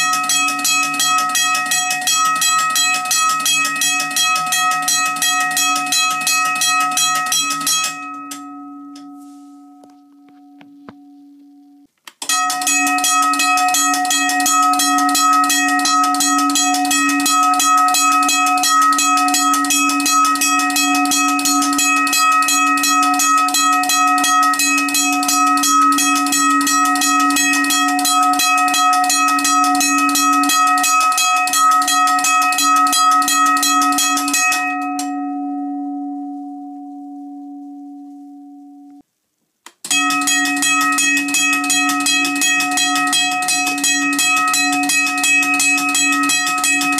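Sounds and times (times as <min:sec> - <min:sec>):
railroad crossing bell ringing: 0:00.0 - 0:39.0, 0:39.9 - 0:46.9.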